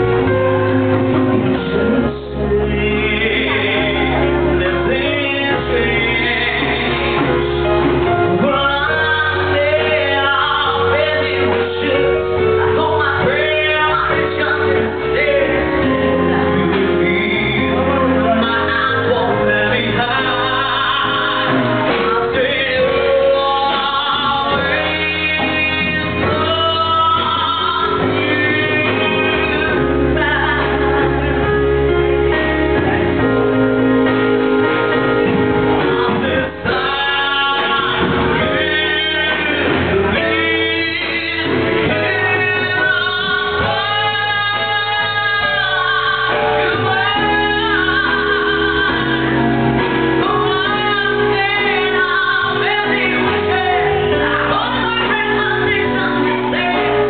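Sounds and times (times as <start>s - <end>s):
drums: 0.0s - 57.0s
keyboard: 0.0s - 57.0s
man singing into a microphone: 0.0s - 57.0s.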